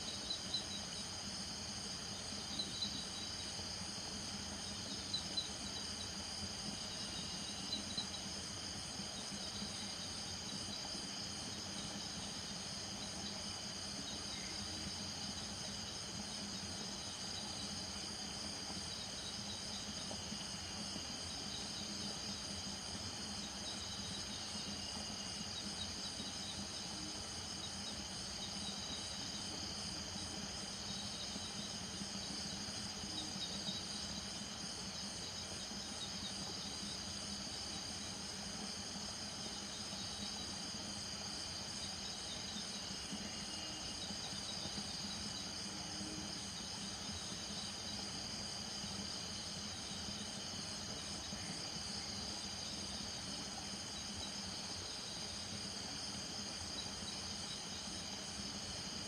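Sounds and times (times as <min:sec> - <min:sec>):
crickets trilling: 0:00.0 - 0:59.0
faint low hum: 0:00.0 - 0:59.0.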